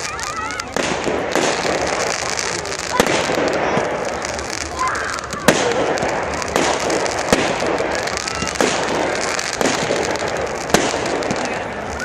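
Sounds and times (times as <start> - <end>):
firework shells bursting: 0.0 - 12.0
fireworks crackling: 0.0 - 12.0.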